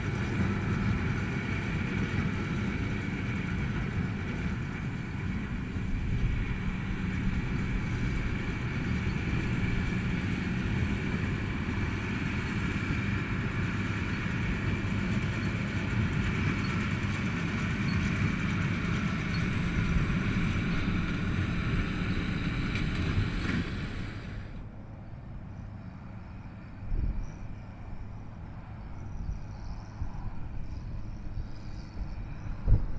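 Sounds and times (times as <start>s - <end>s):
high machinery whine: 0.0s - 27.5s
tractor diesel engine running: 0.0s - 28.6s.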